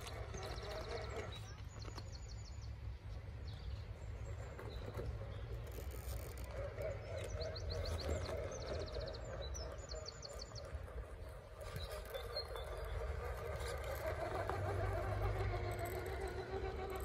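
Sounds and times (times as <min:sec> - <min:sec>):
electric motor and gears whining: 0:00.0 - 0:02.6, 0:04.2 - 0:17.0
birds chirping: 0:00.0 - 0:17.0.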